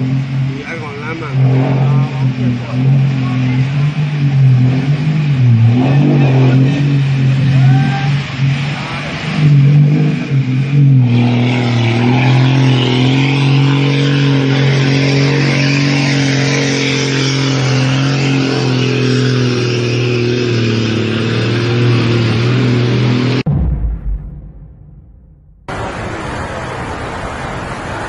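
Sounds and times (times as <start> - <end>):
water rushing: 0.0 - 23.4, 25.7 - 28.0
truck engine running: 0.0 - 28.0.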